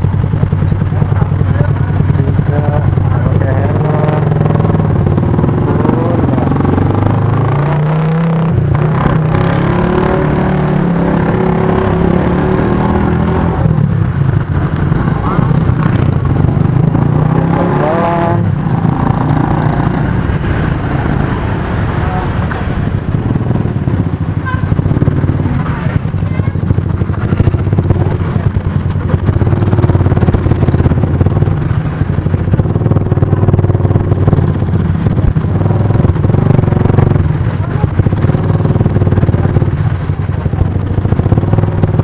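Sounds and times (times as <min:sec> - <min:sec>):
scooter engine running: 0:00.0 - 0:07.8, 0:08.5 - 0:42.0
motorbikes passing: 0:00.0 - 0:42.0.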